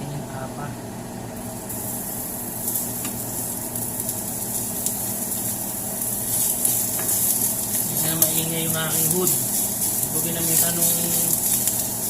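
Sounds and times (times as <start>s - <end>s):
steady low hum: 0.0s - 12.0s
oil spattering crackles: 1.3s - 12.0s
meat sizzling in a hot pan: 1.4s - 12.0s.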